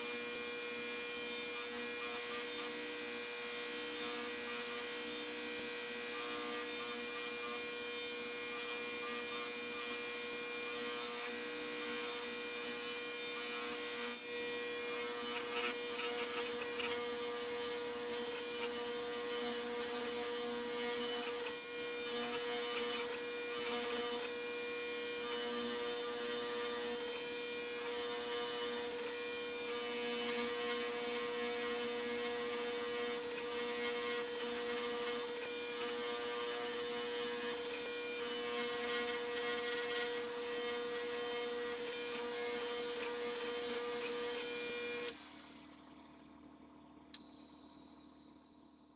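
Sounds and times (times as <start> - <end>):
bench grinder motor humming: 0.0 - 47.2.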